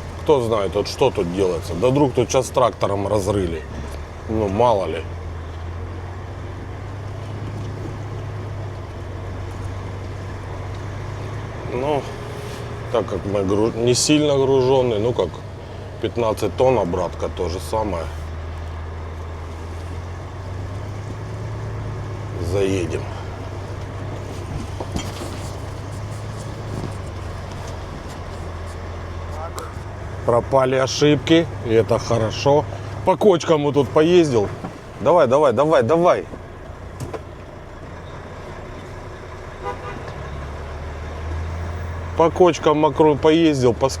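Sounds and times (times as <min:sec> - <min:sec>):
truck diesel engine drone: 0:00.0 - 0:44.0.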